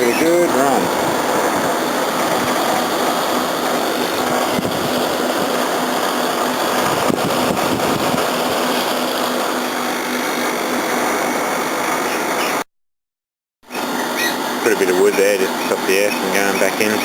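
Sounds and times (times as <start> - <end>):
air conditioner humming: 0.0 - 12.4, 13.7 - 17.0.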